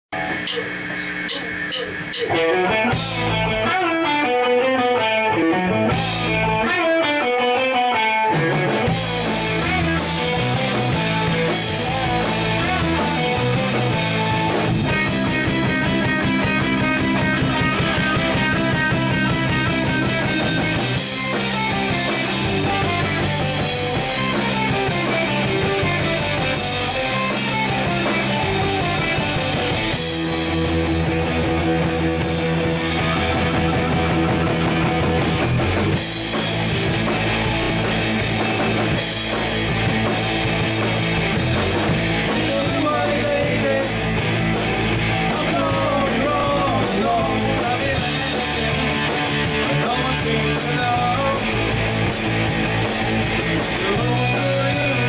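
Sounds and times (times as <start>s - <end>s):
bass guitar: 0.0s - 55.0s
rock band playing: 0.0s - 55.0s
drum kit: 0.1s - 55.0s.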